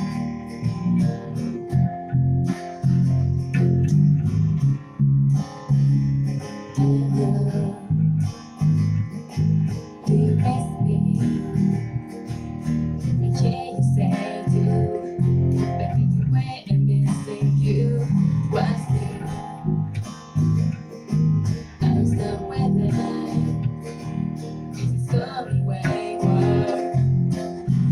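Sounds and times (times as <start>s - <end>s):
guitar strumming: 0.0s - 27.9s.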